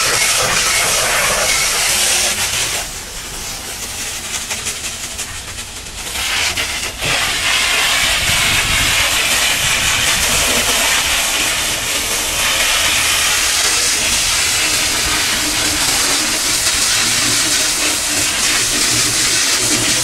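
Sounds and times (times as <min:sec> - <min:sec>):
pressure washer jet hissing: 0:00.0 - 0:20.0.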